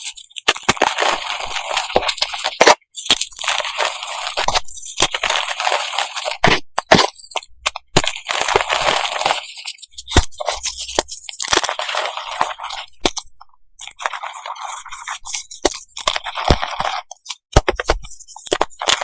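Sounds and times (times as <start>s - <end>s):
chalk crunching and snapping: 0.0s - 19.0s.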